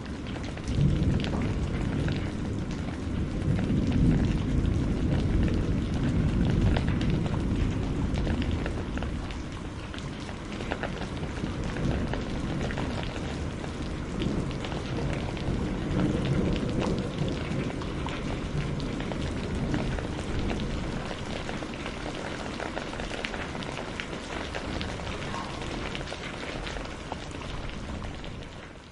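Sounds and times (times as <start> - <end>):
distant thunder rumble: 0.0 - 28.6
heavy rain: 0.0 - 28.9.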